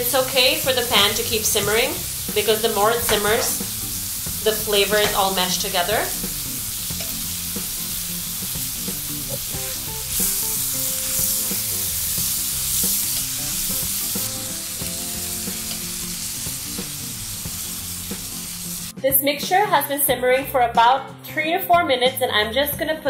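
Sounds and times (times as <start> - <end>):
sauce sizzling in a frying pan: 0.0 - 19.0.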